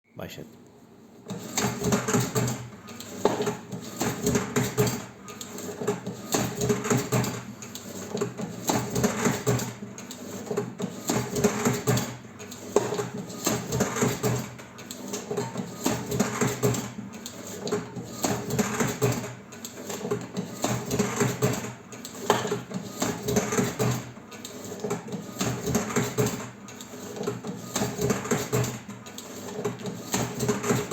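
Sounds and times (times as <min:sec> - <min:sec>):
mechanical clicking and clatter: 0:01.3 - 0:30.9.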